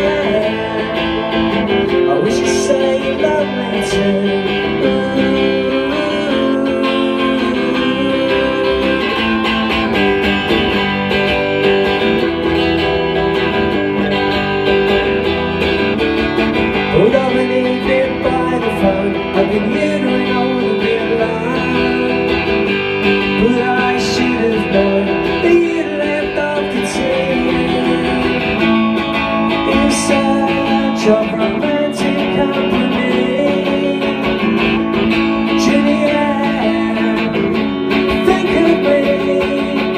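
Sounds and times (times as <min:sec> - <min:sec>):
electric guitar strumming: 0:00.0 - 0:39.9.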